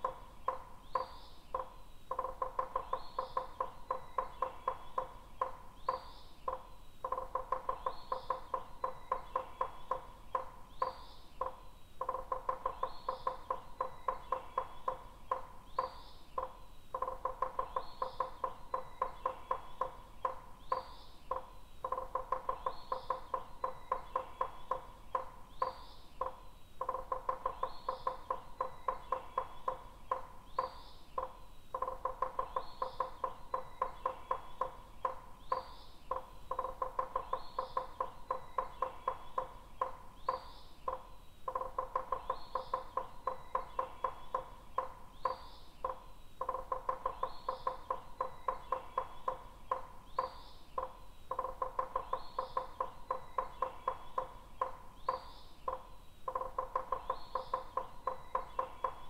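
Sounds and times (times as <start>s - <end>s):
woodpecker tapping on wood: 0.0s - 59.0s.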